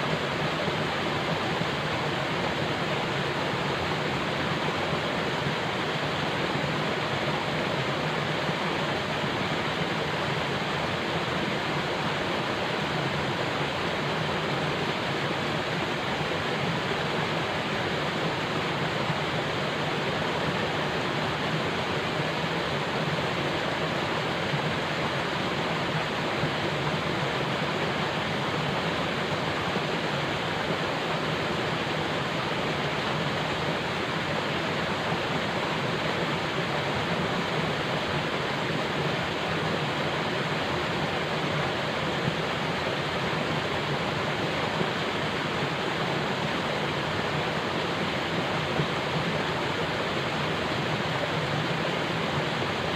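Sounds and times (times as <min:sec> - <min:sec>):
falling water rushing: 0:00.0 - 0:52.9.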